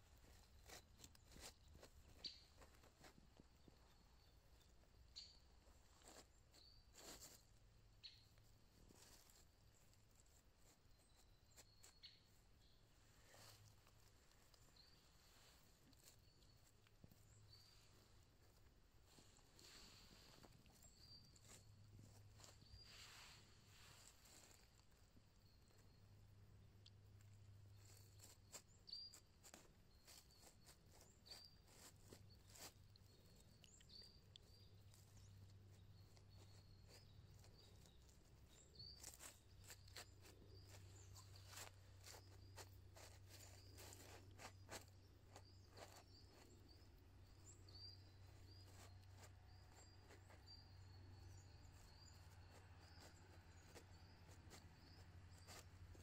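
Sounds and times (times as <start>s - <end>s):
rustling of dry leaves and twigs: 0.0s - 56.0s.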